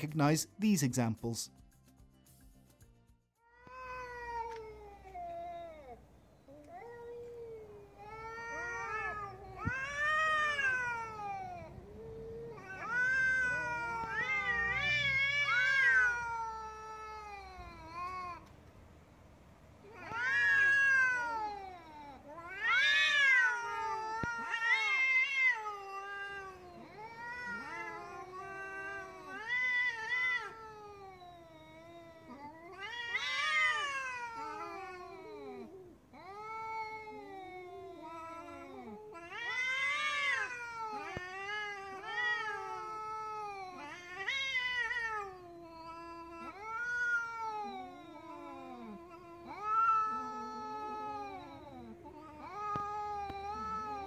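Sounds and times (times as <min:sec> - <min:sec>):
cats caterwauling: 0:03.4 - 0:18.6, 0:19.7 - 0:54.0.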